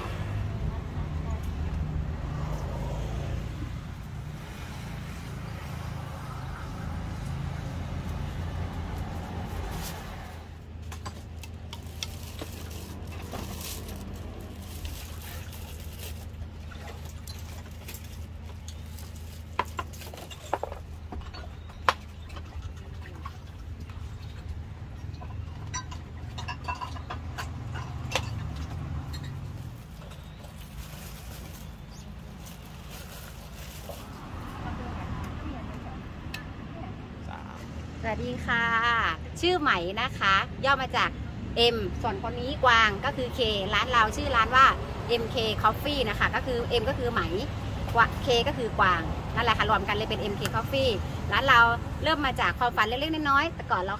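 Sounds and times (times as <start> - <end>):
low traffic rumble: 0.0 - 53.9.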